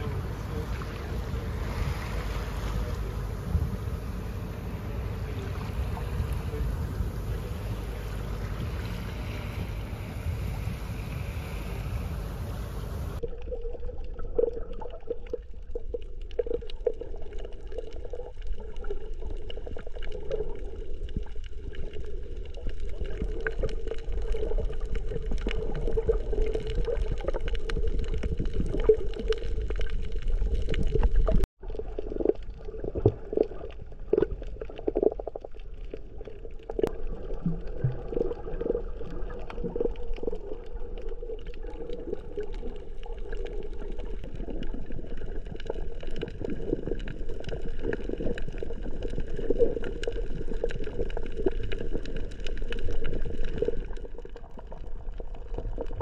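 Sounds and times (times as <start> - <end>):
water sloshing and gurgling: 0.0 - 56.0.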